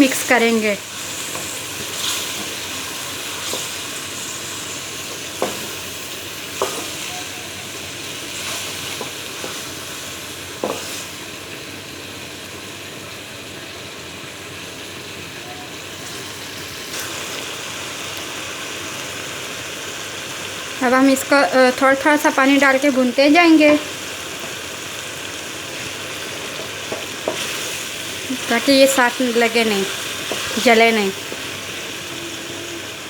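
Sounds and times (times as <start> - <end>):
food sizzling in a pot: 0.0 - 33.0.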